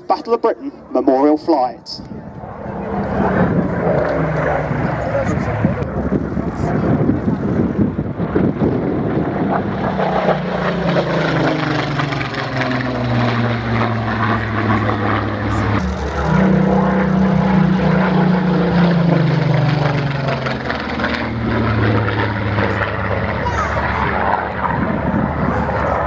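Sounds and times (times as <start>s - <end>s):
propeller aircraft flying past: 0.0s - 26.0s.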